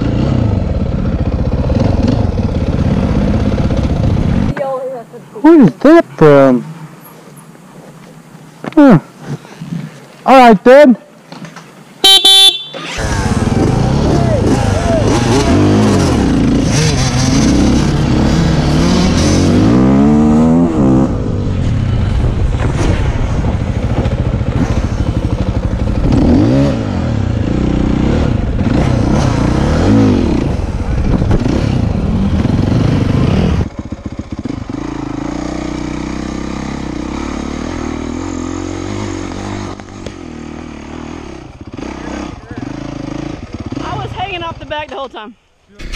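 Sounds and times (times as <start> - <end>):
dirt bike engine revving: 0.0 - 4.6, 12.1 - 44.9.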